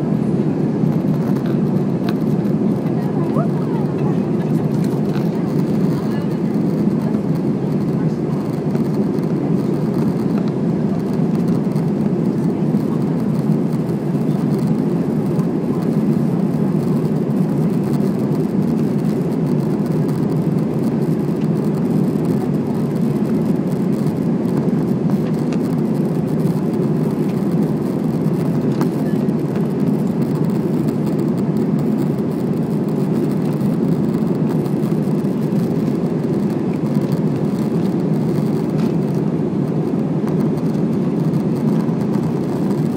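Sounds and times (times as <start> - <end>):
jet engines droning in cabin: 0.0 - 42.9.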